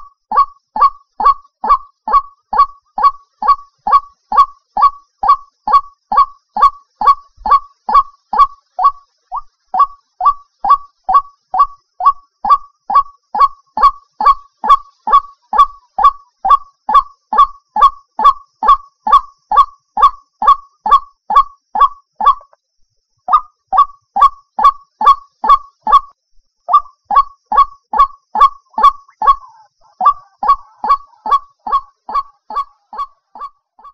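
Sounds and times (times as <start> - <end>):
waterhen calling: 0.0 - 22.6, 26.7 - 33.9.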